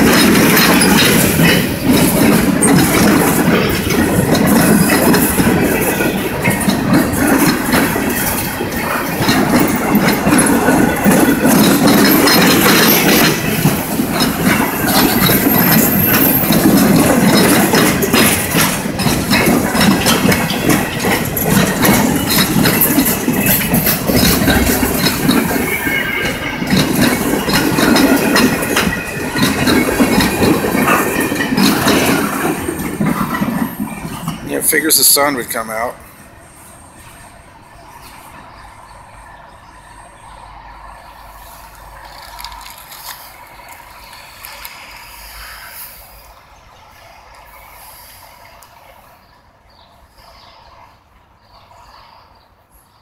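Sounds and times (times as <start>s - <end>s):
locomotive engine drone: 0.0s - 49.6s
train wheels clicking over rails: 0.0s - 53.0s.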